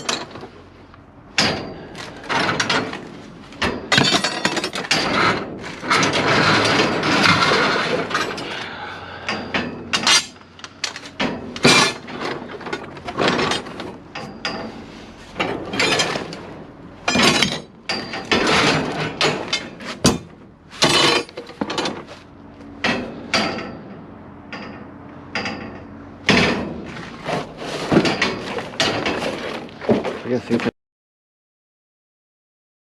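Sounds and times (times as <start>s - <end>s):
metal scraping clatter: 1.4s - 8.6s, 9.2s - 30.7s
scrap metal clanking: 1.4s - 24.0s, 24.6s - 30.7s.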